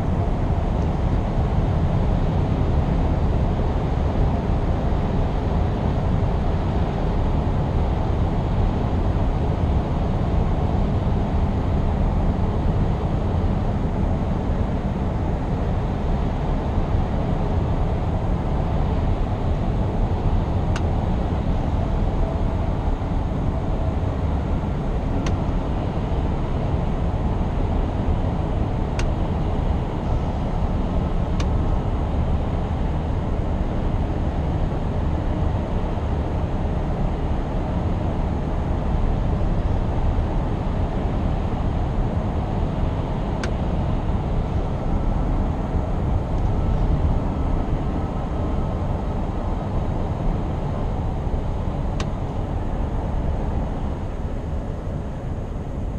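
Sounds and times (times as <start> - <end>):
diesel engine rumbling: 7.6 - 55.9.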